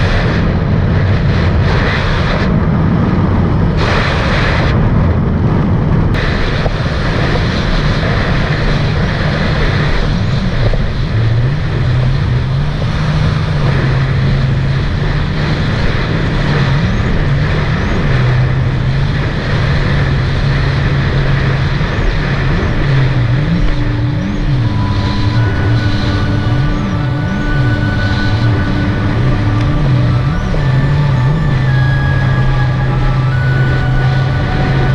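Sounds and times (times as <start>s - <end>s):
jet ski engine: 0.0s - 34.9s
wind and water rushing: 0.0s - 34.9s.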